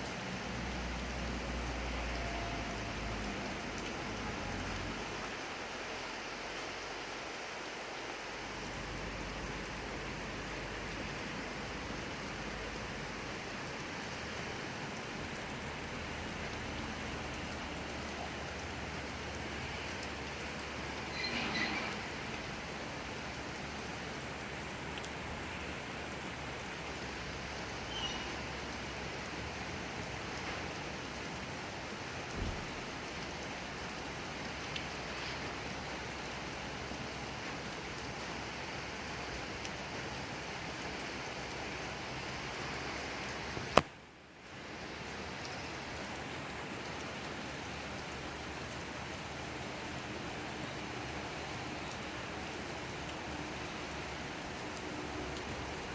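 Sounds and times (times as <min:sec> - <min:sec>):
rain falling: 0:00.0 - 0:55.9.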